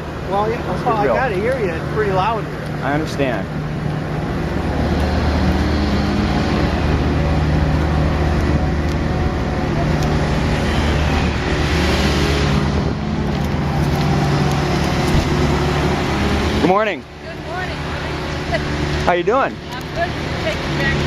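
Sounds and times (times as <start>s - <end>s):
heavy machinery engine running: 0.0s - 21.0s.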